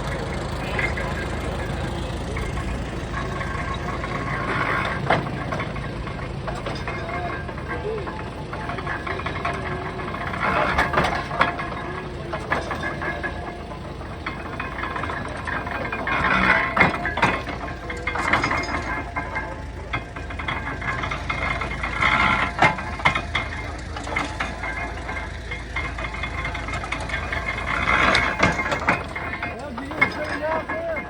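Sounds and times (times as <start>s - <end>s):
baler knocks and rattles: 0.0s - 31.0s
low engine hum: 0.0s - 31.0s.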